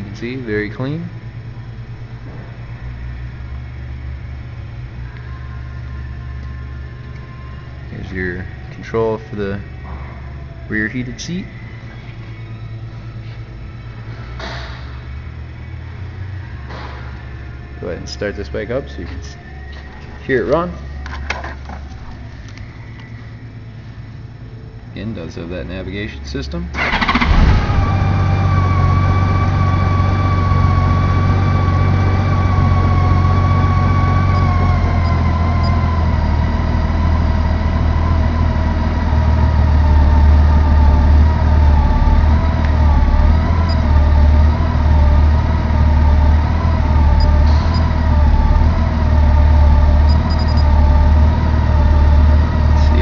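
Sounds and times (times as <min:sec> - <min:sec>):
faint whine: 0:00.0 - 0:53.0.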